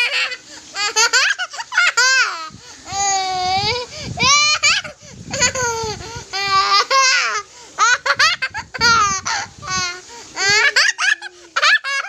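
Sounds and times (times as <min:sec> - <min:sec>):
toddler laughing: 0:00.0 - 0:12.0.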